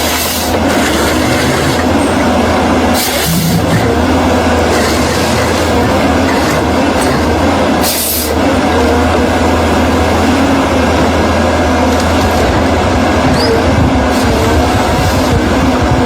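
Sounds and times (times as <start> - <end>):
heavy diesel machinery running: 0.0 - 16.0.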